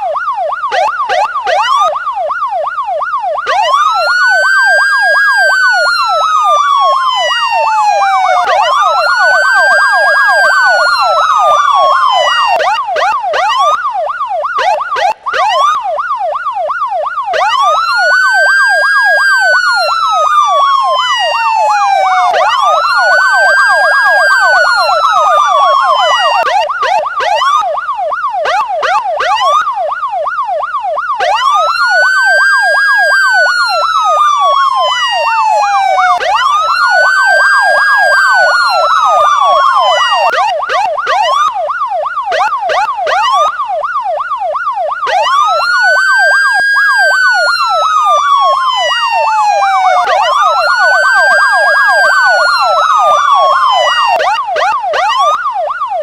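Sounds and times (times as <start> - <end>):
police siren wailing: 0.0 - 56.0
siren yelp: 0.0 - 56.0.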